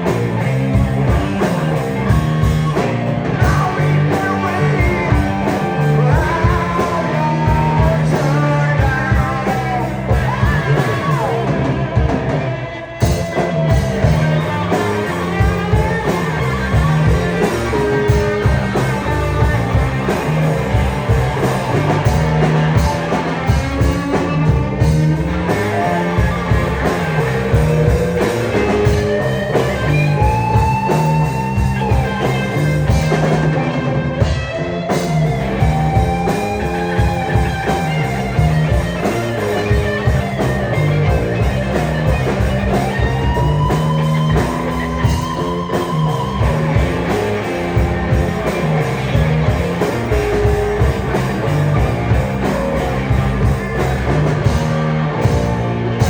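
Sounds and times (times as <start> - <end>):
bass line: 0.0 - 56.0
drums: 0.0 - 56.0
electric guitar lead lines: 0.0 - 56.0.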